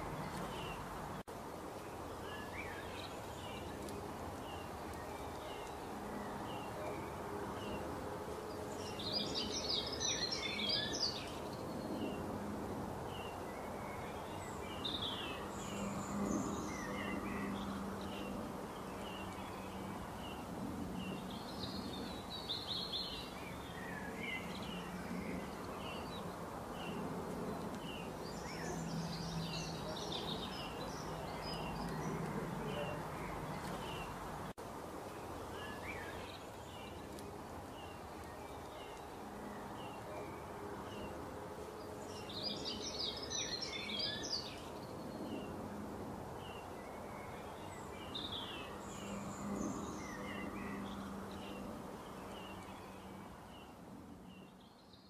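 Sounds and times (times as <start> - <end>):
birds twittering fast: 0.0 - 55.0
songbirds chirping: 0.0 - 55.0
steady background hiss: 0.0 - 55.0.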